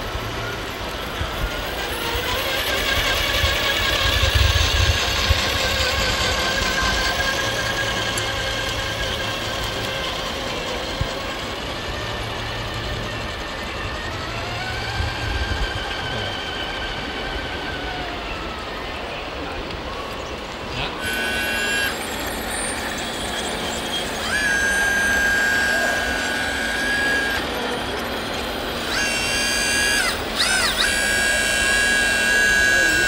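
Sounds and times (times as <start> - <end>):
toy truck drive whining: 0.0 - 33.0.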